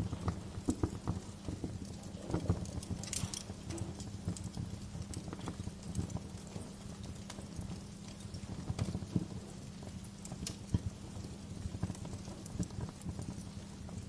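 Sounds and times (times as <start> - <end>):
fire hissing: 0.0 - 14.0
wood fire crackling: 0.0 - 14.0.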